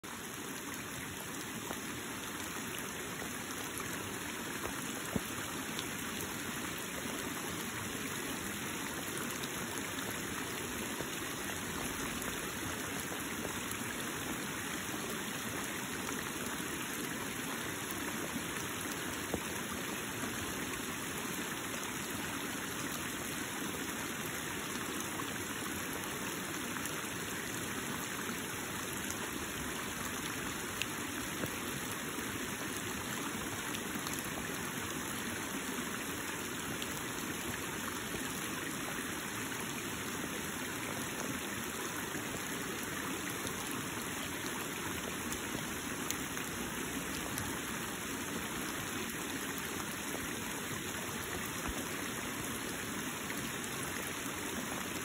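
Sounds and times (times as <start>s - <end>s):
creek water rushing over rocks: 0.0s - 55.0s.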